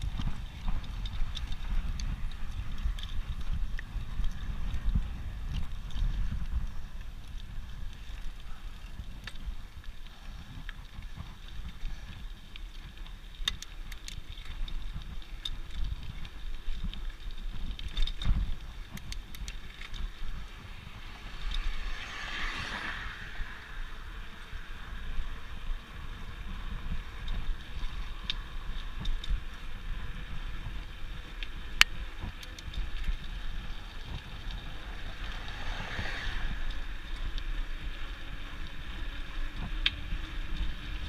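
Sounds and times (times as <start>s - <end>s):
bicycle tyre rumble: 0.0s - 41.0s
bike clicks and rattles: 0.0s - 41.0s
wind on microphone: 0.0s - 41.0s.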